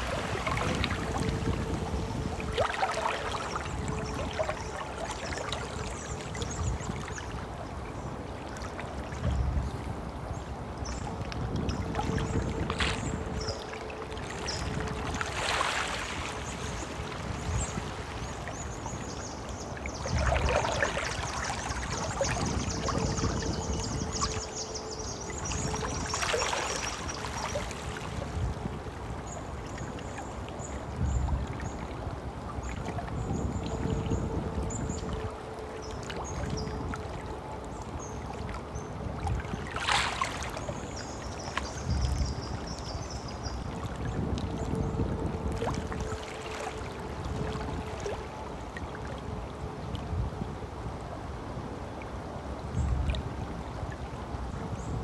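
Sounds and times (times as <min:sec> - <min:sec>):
stream gurgling: 0:00.0 - 0:55.0.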